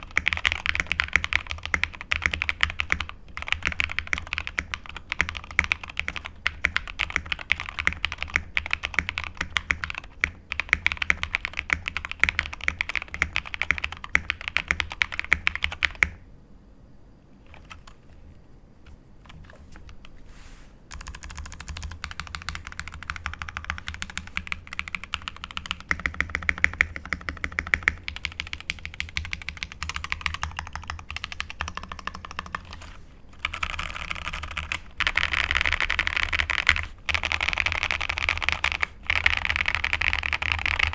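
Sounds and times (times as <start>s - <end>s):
mechanical keyboard typing: 0.0s - 16.2s, 17.5s - 18.2s, 20.9s - 40.9s.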